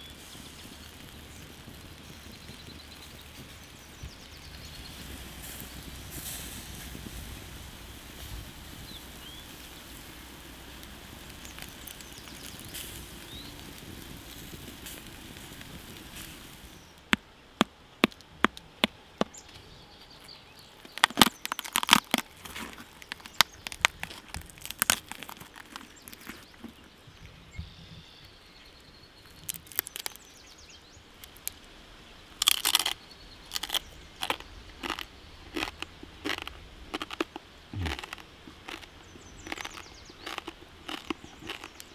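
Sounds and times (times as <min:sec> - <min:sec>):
quiet outdoor background: 0:00.0 - 0:41.9
pork crackling cracking: 0:00.1 - 0:19.6, 0:20.7 - 0:26.9, 0:29.2 - 0:30.4, 0:31.2 - 0:31.7, 0:32.4 - 0:41.9.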